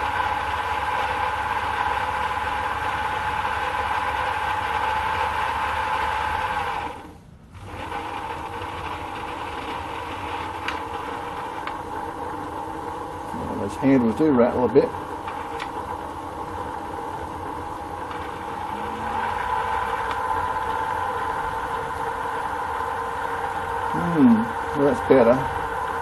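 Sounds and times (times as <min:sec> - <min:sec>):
metal lathe motor whine: 0:00.0 - 0:26.0.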